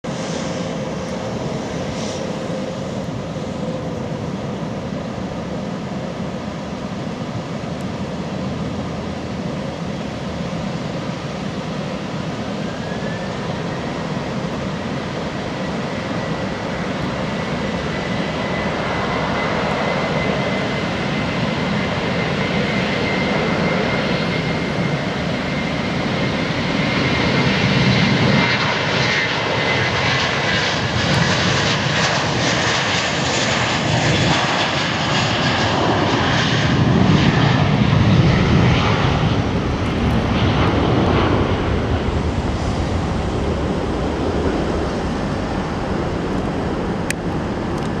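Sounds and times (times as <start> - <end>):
high jet whine: 0.0 - 48.0
jet engine rumble: 0.0 - 48.0.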